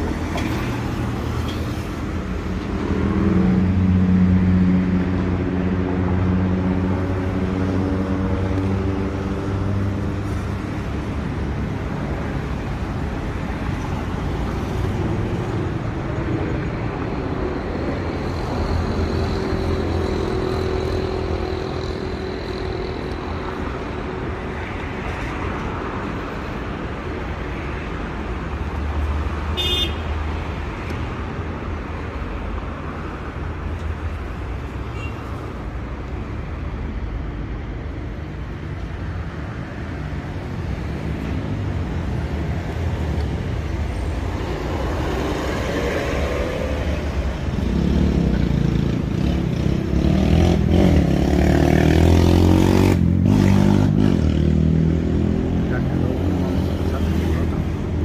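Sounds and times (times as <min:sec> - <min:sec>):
vehicle engine: 0:00.0 - 0:26.8, 0:30.4 - 0:58.0
rumble of passing vehicles: 0:00.0 - 0:58.0.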